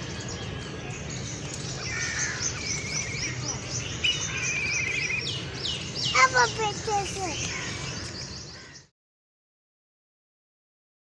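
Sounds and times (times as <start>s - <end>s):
small birds chirping: 0.0s - 8.9s.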